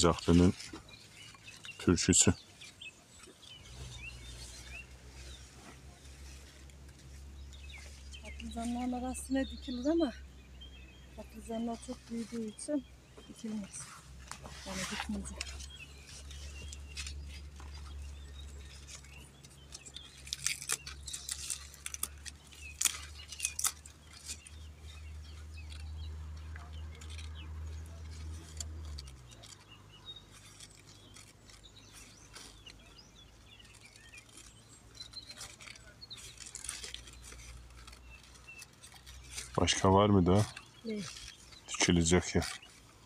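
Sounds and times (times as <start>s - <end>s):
hands digging in soil: 0.0s - 10.0s, 11.2s - 43.0s
rustling of dirt and leaves: 0.0s - 43.0s.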